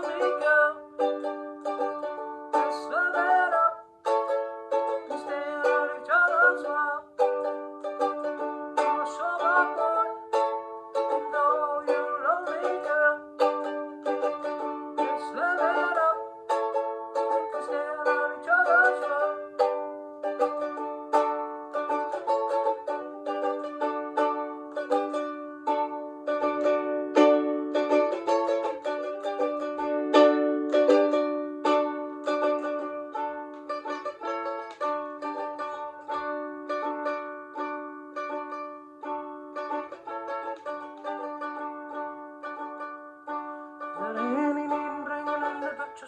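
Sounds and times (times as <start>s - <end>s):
ukulele playing: 0.0s - 46.0s.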